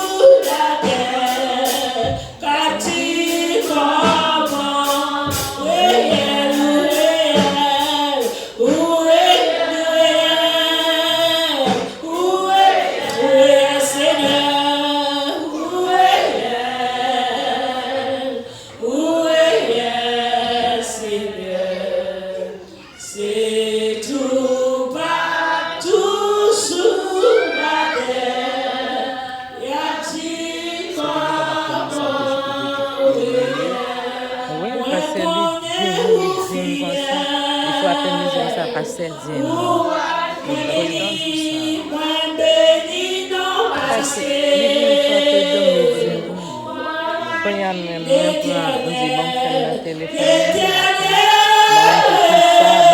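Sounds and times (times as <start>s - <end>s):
congregation singing a hymn: 0.0s - 52.9s.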